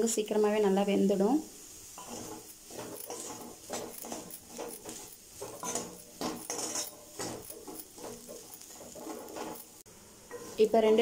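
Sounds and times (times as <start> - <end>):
metal spatula scraping a pan: 1.6 - 10.7.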